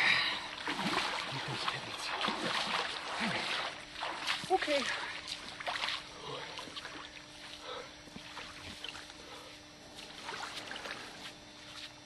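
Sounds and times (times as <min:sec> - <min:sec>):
bare feet splashing in water: 0:00.0 - 0:12.0
footsteps on shore: 0:00.7 - 0:12.0.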